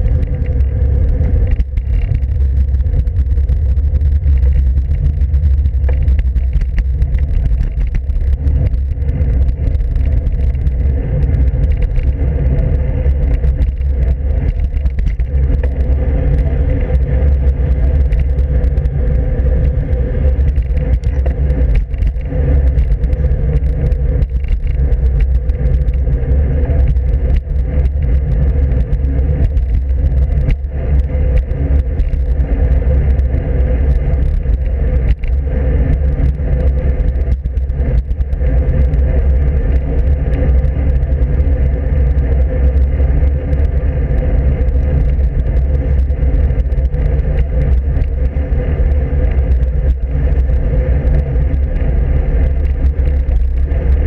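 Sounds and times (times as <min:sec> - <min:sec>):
bicycle road rumble: 0:00.0 - 0:54.0
wind on microphone: 0:00.0 - 0:54.0.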